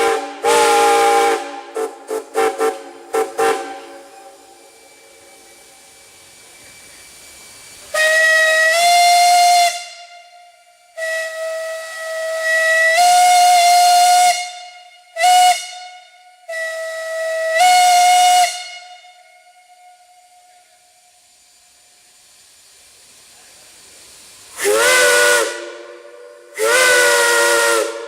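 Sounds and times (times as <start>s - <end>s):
steam whistle blasts: 0.0s - 7.0s, 7.8s - 22.0s, 24.5s - 28.0s.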